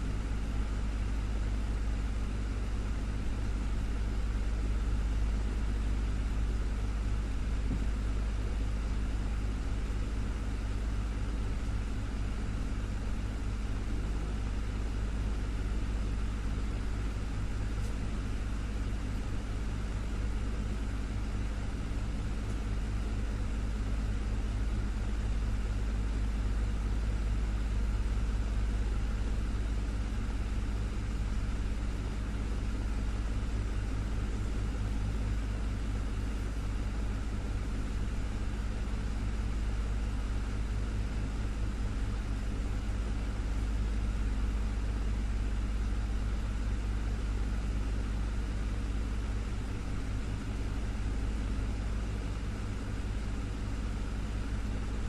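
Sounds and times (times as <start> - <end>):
desktop fan humming: 0.0 - 55.0.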